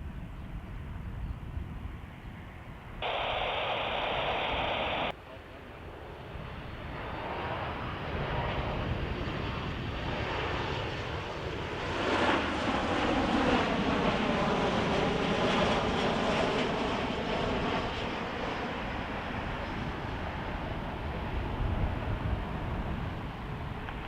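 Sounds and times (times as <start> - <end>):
jet airliner engines passing: 0.0 - 24.0.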